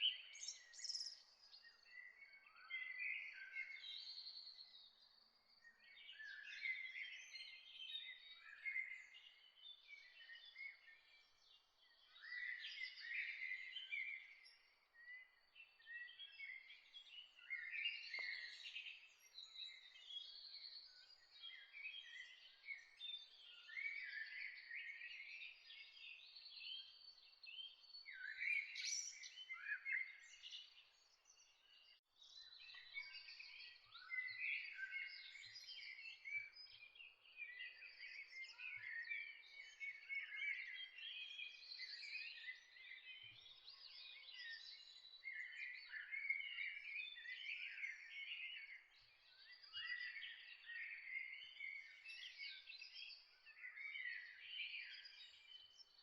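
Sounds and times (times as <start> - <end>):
birds chirping and singing: 0.0 - 4.8, 5.5 - 56.0.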